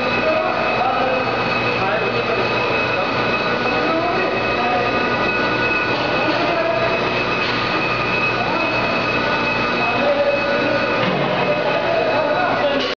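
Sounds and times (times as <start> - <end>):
high whining tones: 0.0 - 12.9
machinery hum: 0.0 - 12.9.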